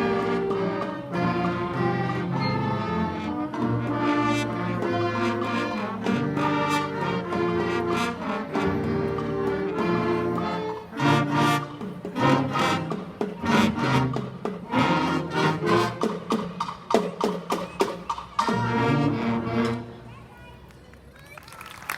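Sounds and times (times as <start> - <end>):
percussion hits: 0.0 - 19.0
concert band playing: 0.0 - 19.8.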